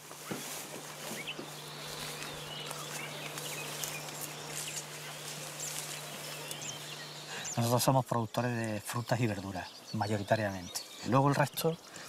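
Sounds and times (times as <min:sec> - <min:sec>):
steady low hum: 0:00.0 - 0:10.3
small birds chirping: 0:00.0 - 0:12.0.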